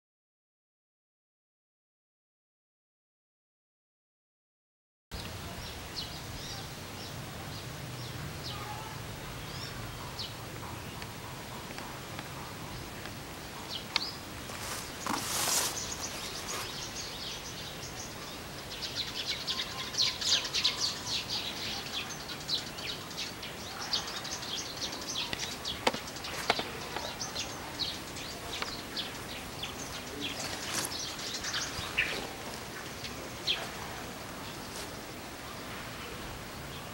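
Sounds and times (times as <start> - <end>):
birds chirping: 5.1 - 36.9
steady background hiss: 5.1 - 36.9.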